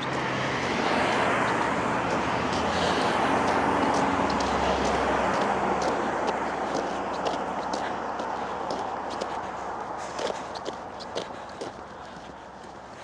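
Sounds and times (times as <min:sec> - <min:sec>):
footsteps ticking: 0:00.0 - 0:13.0
vehicle passing on road: 0:00.0 - 0:13.0.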